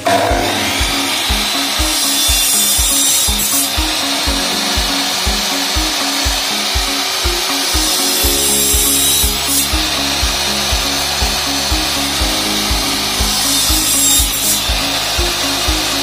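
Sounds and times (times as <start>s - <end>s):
background music with low thumps: 0.0s - 16.0s.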